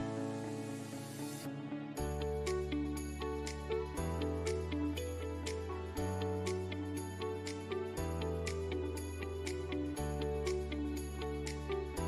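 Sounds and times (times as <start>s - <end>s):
light instrumental music: 0.0s - 12.0s.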